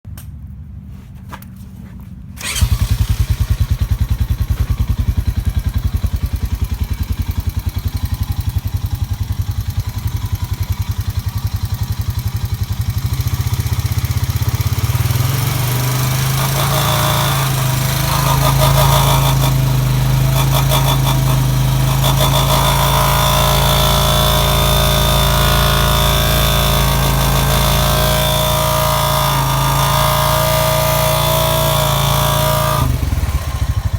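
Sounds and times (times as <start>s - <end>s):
atv engine running: 0.4s - 33.9s.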